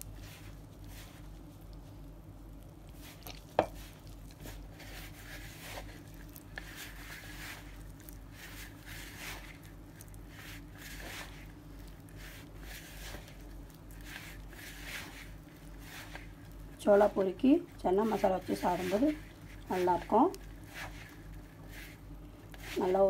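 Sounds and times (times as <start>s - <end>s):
hands squishing dough: 0.0s - 23.0s.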